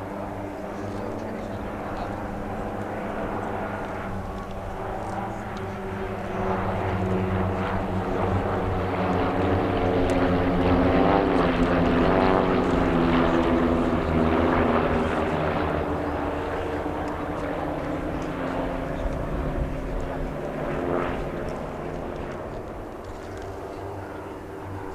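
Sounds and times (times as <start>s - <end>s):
propeller aircraft passing overhead: 0.0s - 24.9s.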